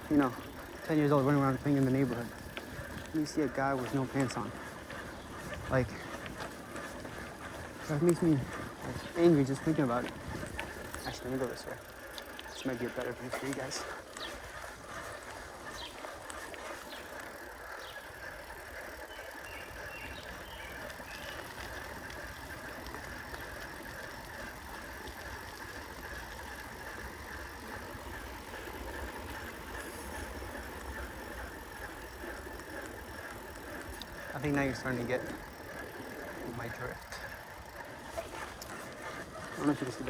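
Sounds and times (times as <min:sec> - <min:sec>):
bicycle rolling on road: 0:00.0 - 0:40.0.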